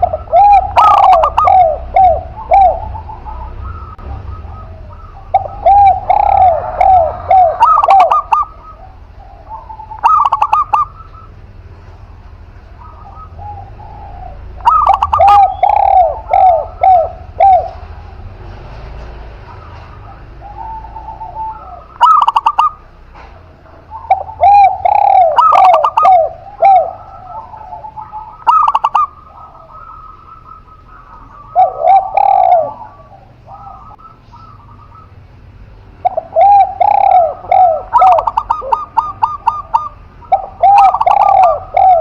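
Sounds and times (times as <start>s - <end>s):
doves cooing: 0.0s - 42.0s.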